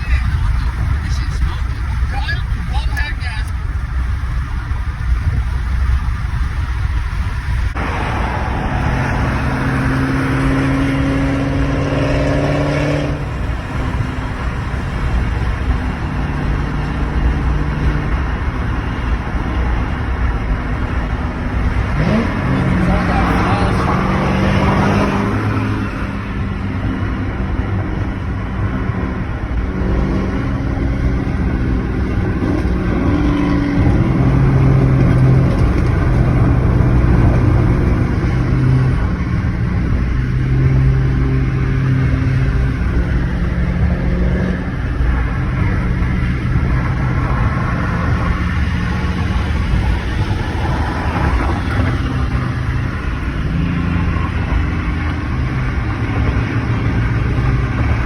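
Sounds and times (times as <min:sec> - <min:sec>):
car engine droning: 0:00.0 - 0:58.0
road noise: 0:00.0 - 0:58.0.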